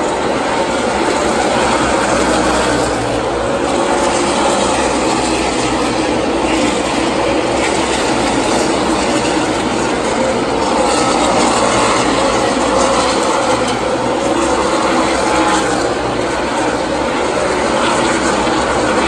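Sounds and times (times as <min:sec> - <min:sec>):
many race car engines roaring: 0:00.0 - 0:19.0.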